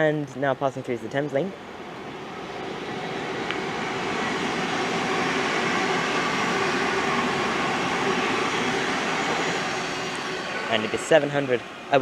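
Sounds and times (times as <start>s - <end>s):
train wheels rushing on rail: 1.6s - 12.0s.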